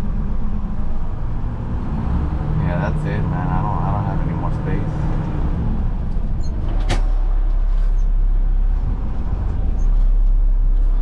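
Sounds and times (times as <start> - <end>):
road noise: 0.0 - 11.0
truck diesel engine: 0.0 - 11.0.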